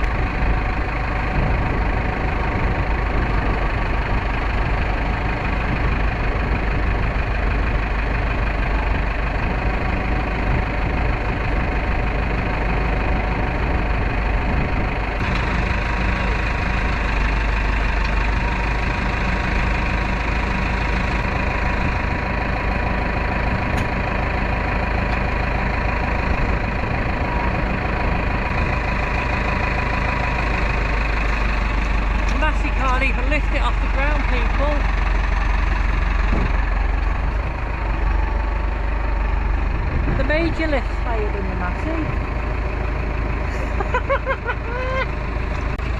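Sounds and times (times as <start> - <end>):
tractor engine idling: 0.0 - 45.9.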